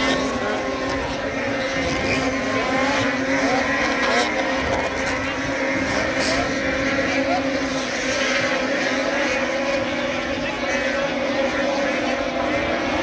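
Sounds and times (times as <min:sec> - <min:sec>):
snowmobile engines droning: 0:00.0 - 0:13.0.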